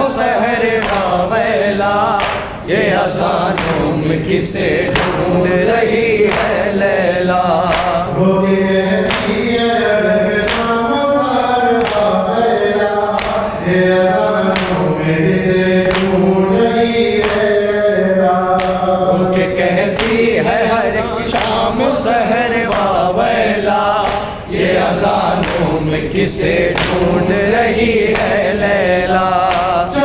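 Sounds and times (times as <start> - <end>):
sharp rhythmic strikes: 0.0 - 30.0
voices chanting a lament: 0.0 - 30.0.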